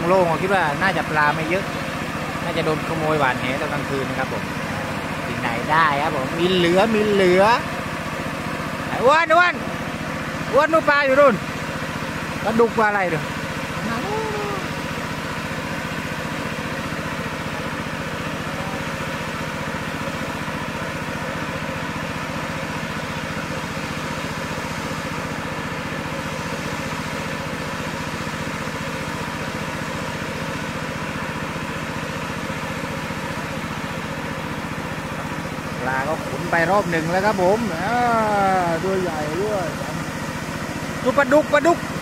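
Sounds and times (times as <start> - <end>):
small engine running steadily: 0.0 - 42.0.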